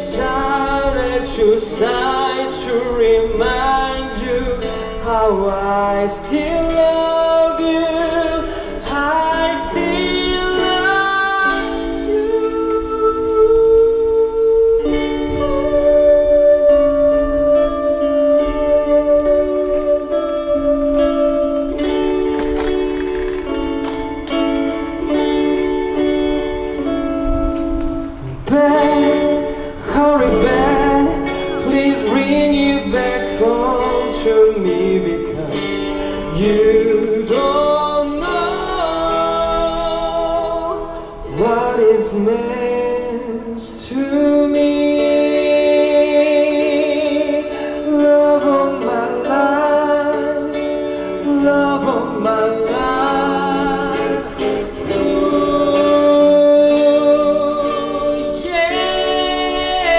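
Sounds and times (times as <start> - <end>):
man singing: 0.0 - 23.5, 28.1 - 59.9
guitars: 0.0 - 59.9.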